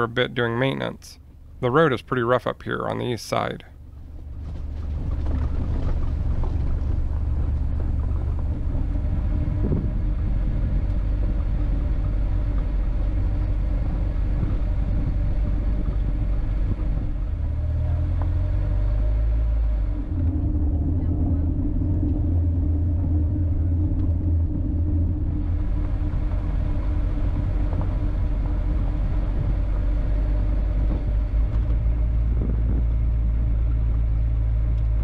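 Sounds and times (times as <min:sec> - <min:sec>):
vehicle rumbling on gravel: 0:00.0 - 0:35.0.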